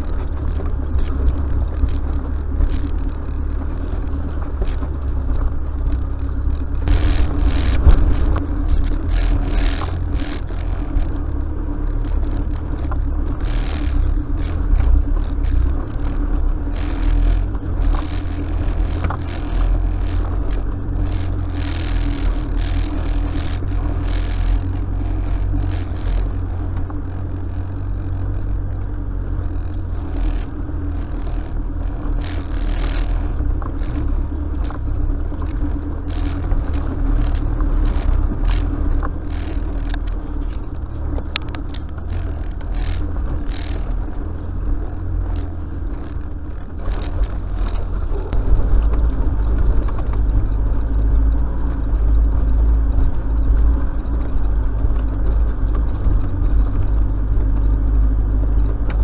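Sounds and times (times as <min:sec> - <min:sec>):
vehicle engine drone: 0:00.0 - 0:59.0
vehicle rattles and scrapes: 0:00.0 - 0:59.0.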